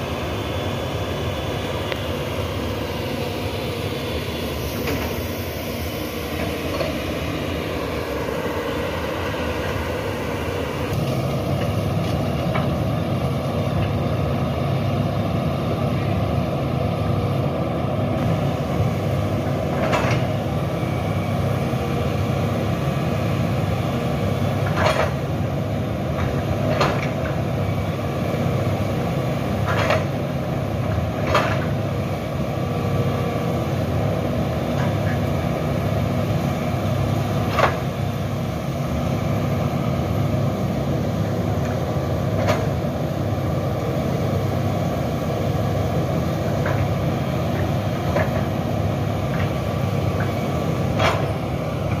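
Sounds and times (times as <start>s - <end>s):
engine whine: 0.0s - 52.0s
excavator diesel engine running: 0.0s - 52.0s.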